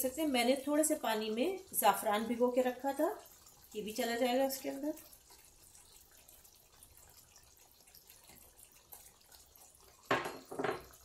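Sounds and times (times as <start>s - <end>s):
gravy simmering: 0.0s - 11.0s
liquid pouring into a pan: 0.0s - 11.0s.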